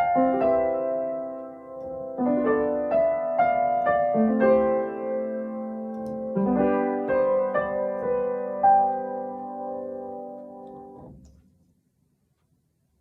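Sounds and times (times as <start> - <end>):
piano melody over chords: 0.0 - 11.4.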